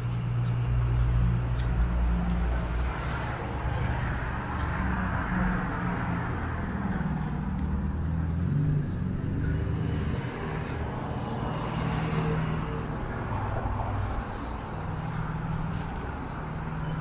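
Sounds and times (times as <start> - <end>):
car engine humming: 0.0 - 17.0
road noise: 0.0 - 17.0.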